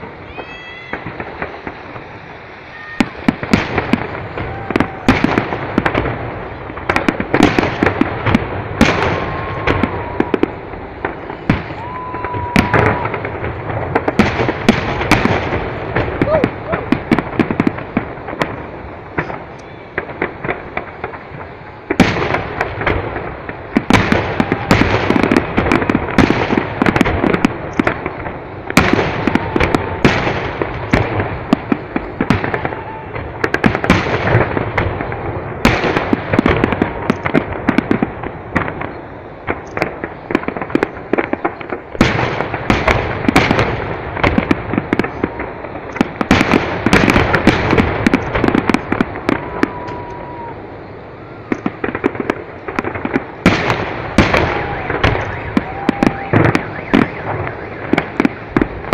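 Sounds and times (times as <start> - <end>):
firework shells bursting: 0.0 - 58.9
rapid firework crackling: 0.0 - 58.9.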